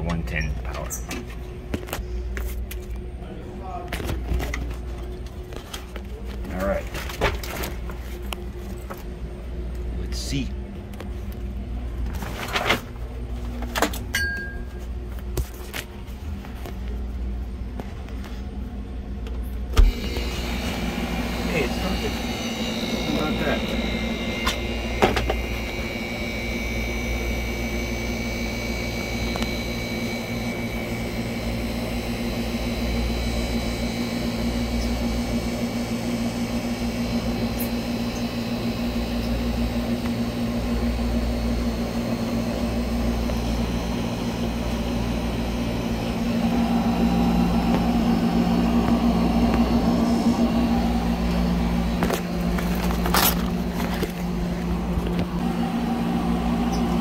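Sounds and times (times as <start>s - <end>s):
refrigerator compressor humming: 0.0s - 57.0s.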